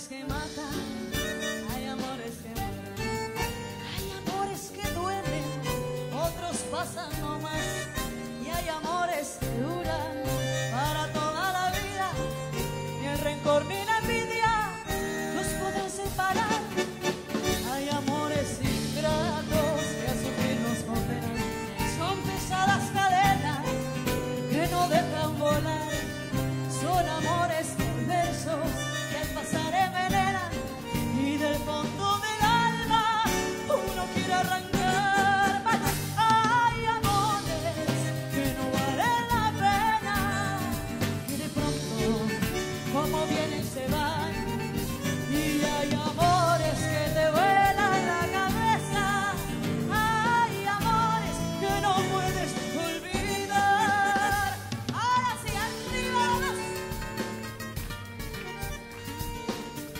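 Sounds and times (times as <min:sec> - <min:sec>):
band with drum kit: 0:00.0 - 0:59.9
woman singing: 0:00.0 - 0:59.9.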